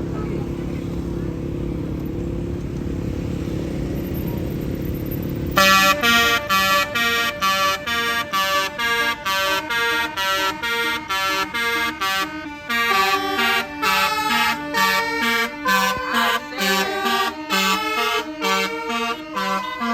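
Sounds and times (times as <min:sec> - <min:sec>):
multi-tone bus horn melody: 0:00.0 - 0:02.0, 0:04.0 - 0:19.9
bus engine idling: 0:00.0 - 0:19.9.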